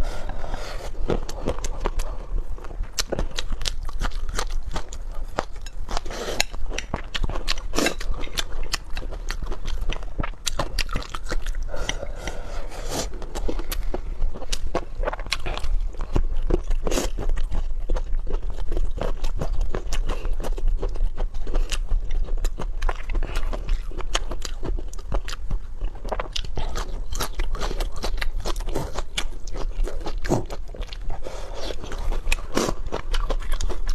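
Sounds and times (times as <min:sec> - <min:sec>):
low steady hum: 0:00.0 - 0:33.9
person chewing crunchy food: 0:00.0 - 0:33.9.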